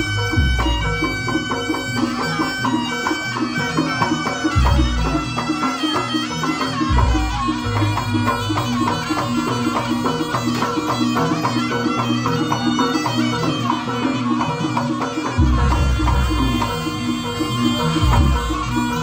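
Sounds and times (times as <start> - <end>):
gamelan pitched notes: 0.0 - 19.0
reedy wind melody: 0.0 - 19.0
steady drumming: 0.0 - 19.0.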